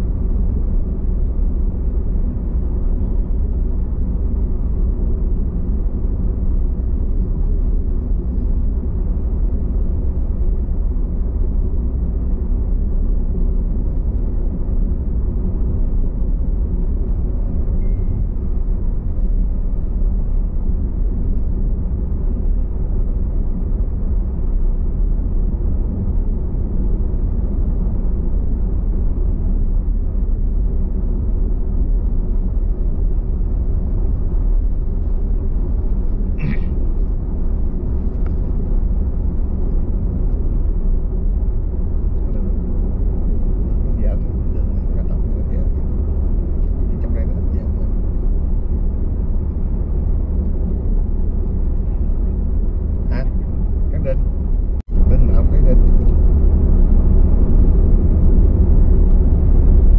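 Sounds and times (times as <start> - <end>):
car engine and tyre road noise: 0.0 - 59.9.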